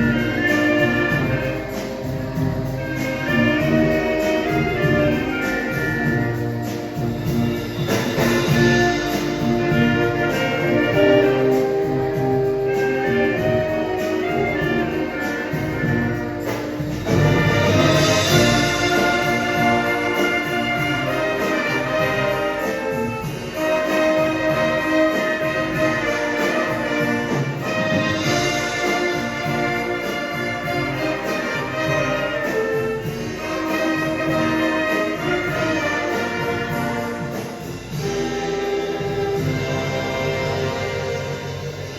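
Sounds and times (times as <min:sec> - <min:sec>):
brass playing: 0:00.0 - 0:41.9
drums and percussion beat: 0:00.0 - 0:41.9.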